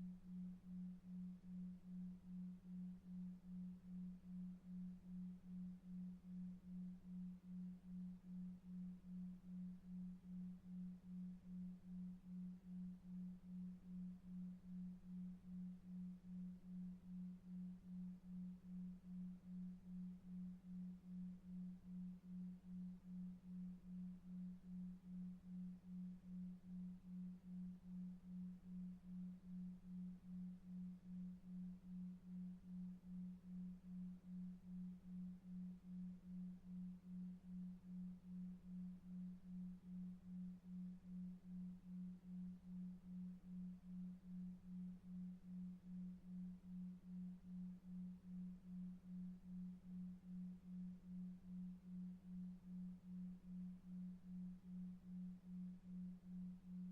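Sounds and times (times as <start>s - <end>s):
low pulsing pure tone: 0.0s - 56.9s.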